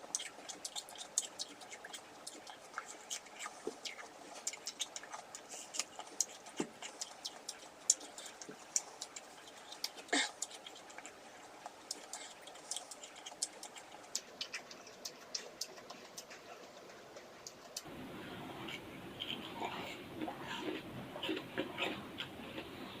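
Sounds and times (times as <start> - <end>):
chewing crisp fruit: 0.0 - 23.0.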